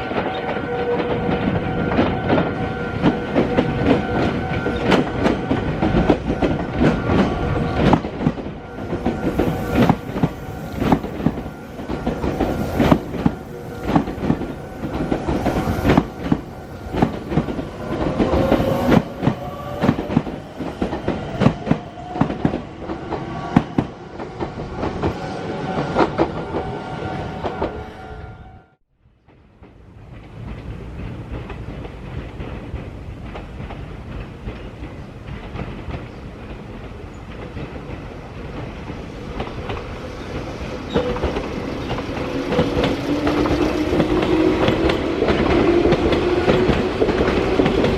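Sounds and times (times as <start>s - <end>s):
train wheels clacking over joints: 0.1s - 25.2s, 29.3s - 47.9s.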